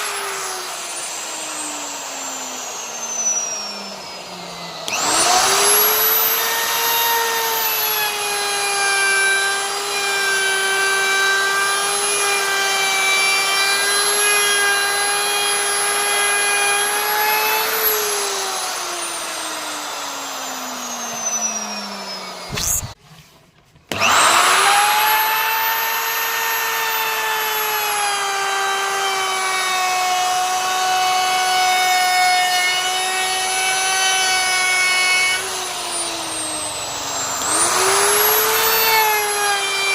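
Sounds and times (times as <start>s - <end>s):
wood router motor whining: 0.0s - 39.9s.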